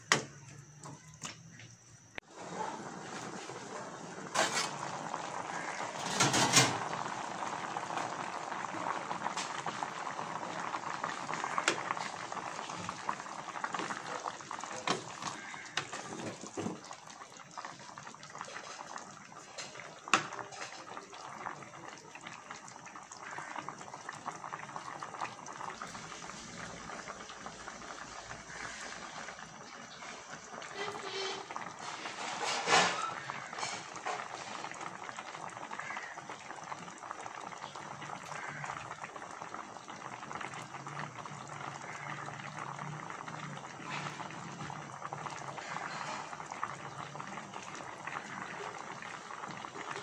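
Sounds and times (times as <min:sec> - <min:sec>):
liquid boiling in a pot: 0:00.0 - 0:50.0.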